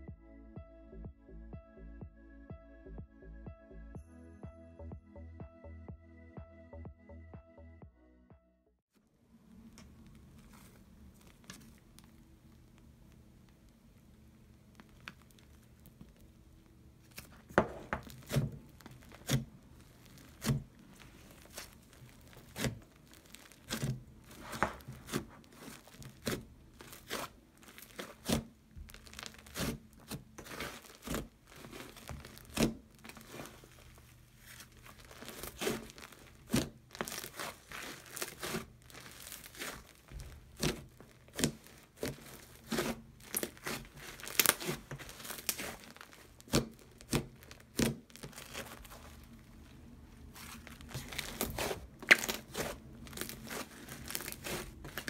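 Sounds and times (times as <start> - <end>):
slime popping and crackling: 9.9 - 55.0.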